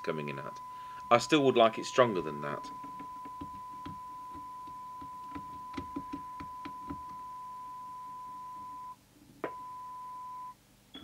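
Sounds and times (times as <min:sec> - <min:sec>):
test tone through radio speaker: 0:00.0 - 0:10.6.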